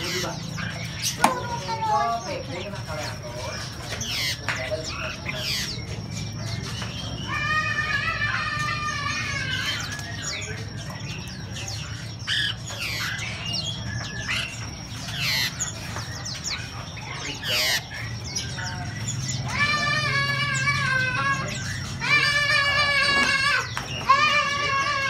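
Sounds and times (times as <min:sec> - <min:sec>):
songbirds chirping and calling: 0:00.0 - 0:25.0.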